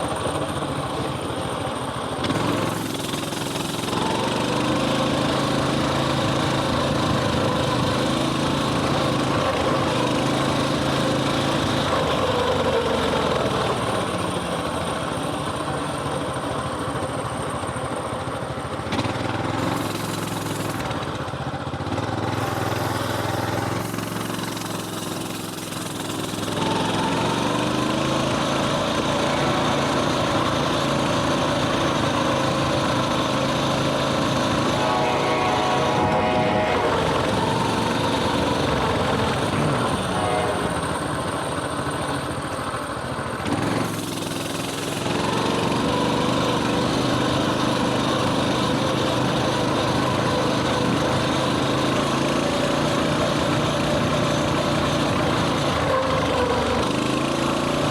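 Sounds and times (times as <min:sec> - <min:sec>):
mini bike engine running: 0:00.0 - 0:57.9.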